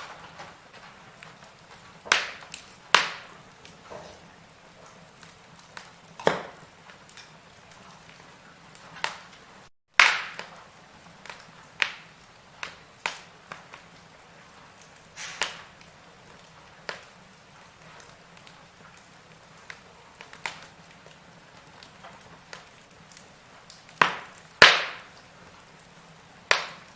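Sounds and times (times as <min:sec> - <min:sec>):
faint steady hiss: 0:00.0 - 0:26.9
wood fire crackling and popping: 0:00.0 - 0:26.9.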